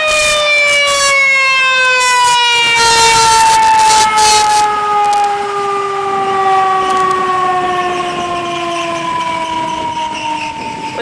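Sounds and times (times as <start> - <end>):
siren sliding down in pitch: 0.0 - 11.0.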